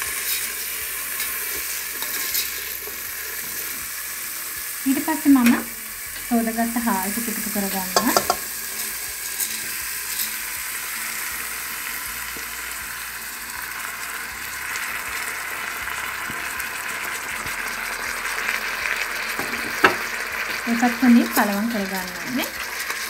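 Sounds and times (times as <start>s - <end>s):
rice poured into pot: 0.0s - 4.9s, 7.2s - 23.0s
oil and vegetables sizzling: 0.0s - 23.0s.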